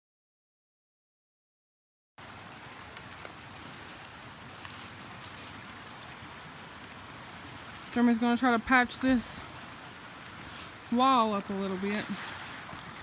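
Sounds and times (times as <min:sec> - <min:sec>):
outdoor background hiss: 0:02.2 - 0:13.0.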